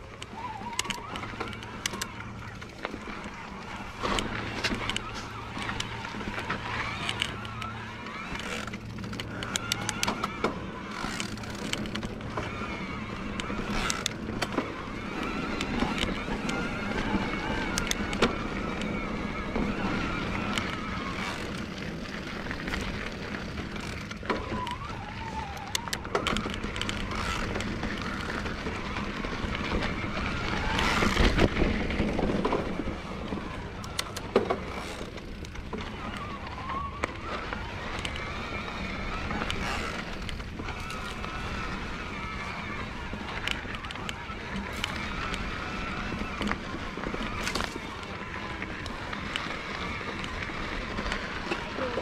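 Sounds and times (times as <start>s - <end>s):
bike clicks and knocks: 0.0s - 52.0s
electric bike motor whining: 0.0s - 52.0s.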